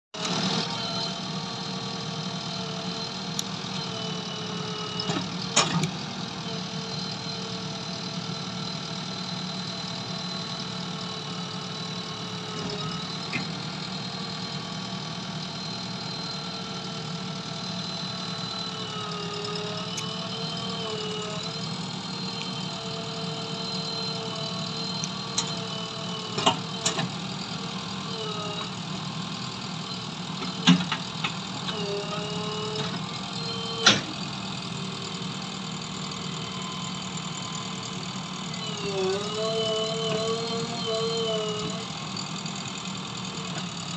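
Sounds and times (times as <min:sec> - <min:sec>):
diesel engine running: 0:00.2 - 0:43.9.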